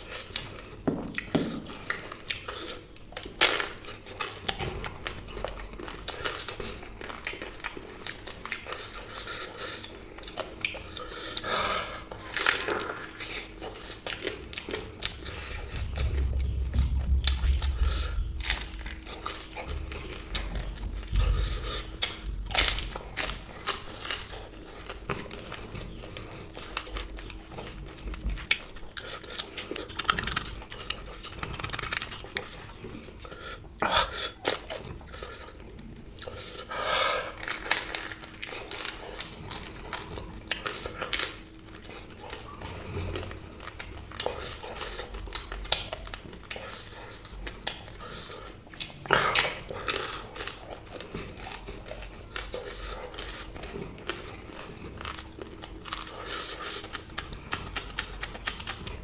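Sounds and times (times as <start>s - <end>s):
food being crunched and chewed: 0.0s - 59.0s.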